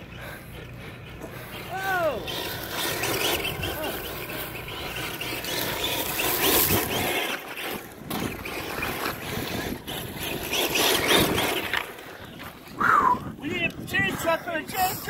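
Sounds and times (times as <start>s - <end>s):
rc car motor revving: 0.0s - 12.7s
tyres scrabbling through gravel: 1.2s - 15.0s.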